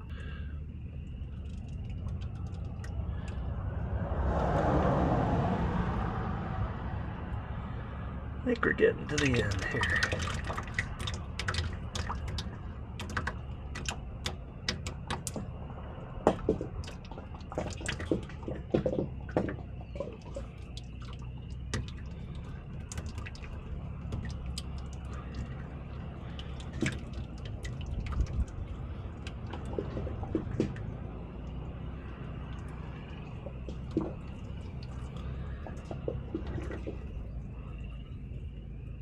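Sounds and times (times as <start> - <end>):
oil dripping into a bucket: 0.0 - 4.8, 7.2 - 39.0
steady low rumble: 0.0 - 39.0.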